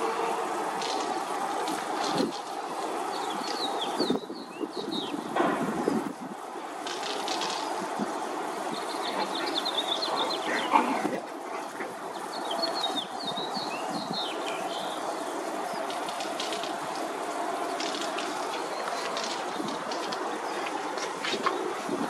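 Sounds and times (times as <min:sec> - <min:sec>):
small birds chirping: 0:00.4 - 0:22.0.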